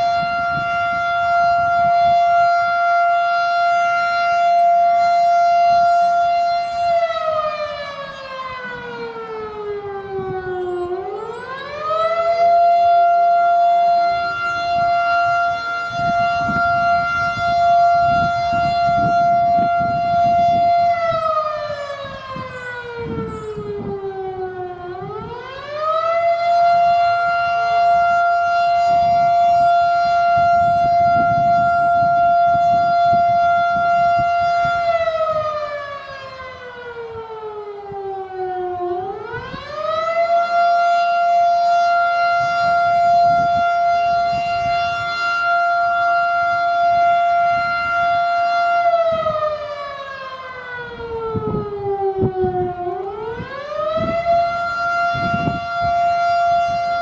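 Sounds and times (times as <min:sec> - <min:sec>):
storm siren wailing: 0:00.0 - 0:57.0.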